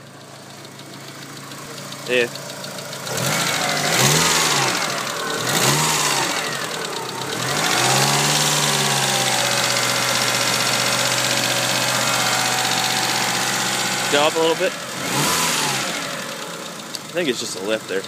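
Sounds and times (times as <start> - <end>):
car engine revving and idling: 0.0 - 18.0
fast light engine ticking: 0.0 - 18.0.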